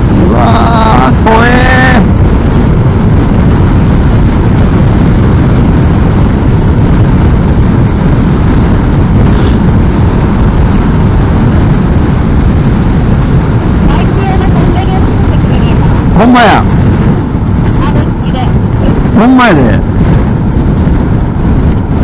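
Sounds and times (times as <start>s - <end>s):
motorcycle engine: 0.0s - 19.2s
road noise: 0.0s - 22.0s
wind rushing over microphone: 0.0s - 22.0s.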